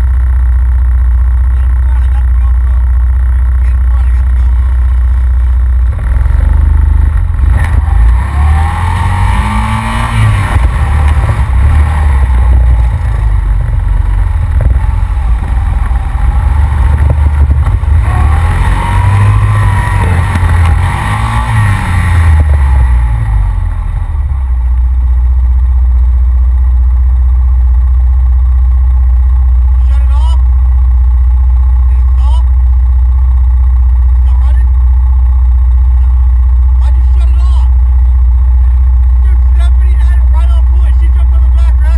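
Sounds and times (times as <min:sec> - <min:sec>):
atv engine revving: 0:00.0 - 0:26.3, 0:28.1 - 0:41.9.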